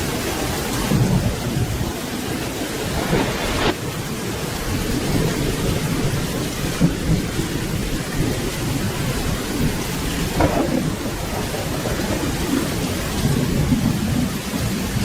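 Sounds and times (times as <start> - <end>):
steady rainfall: 0.0 - 15.0
rolling rumble of thunder: 0.1 - 15.0.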